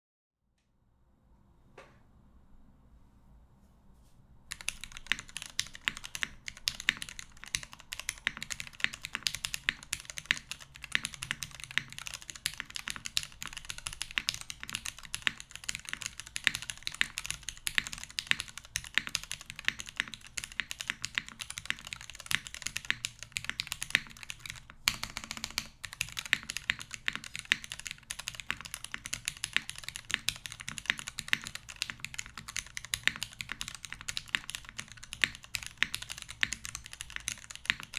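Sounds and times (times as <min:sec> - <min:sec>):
typing on mechanical keyboard: 0:04.5 - 0:37.9.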